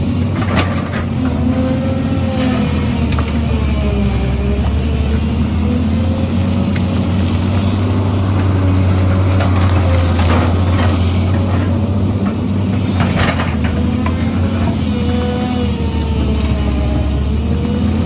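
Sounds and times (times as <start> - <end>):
excavator diesel engine droning: 0.0 - 18.0.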